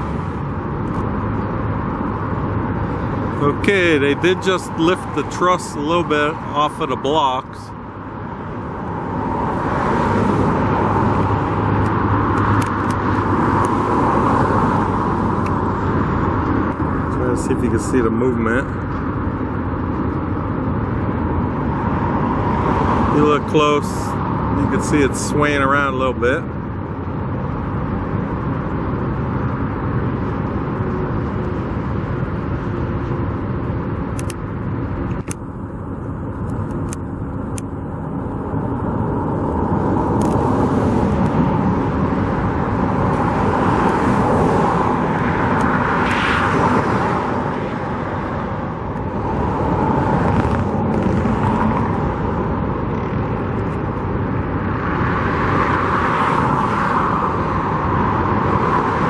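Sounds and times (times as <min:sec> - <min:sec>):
traffic hum: 0:00.0 - 0:59.0
vehicles passing: 0:00.0 - 0:59.0.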